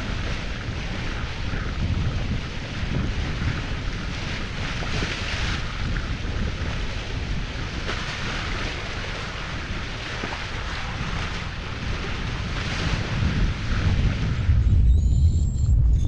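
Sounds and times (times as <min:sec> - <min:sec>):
water rushing and splashing: 0:00.0 - 0:14.8
wind buffeting microphone: 0:00.0 - 0:16.0.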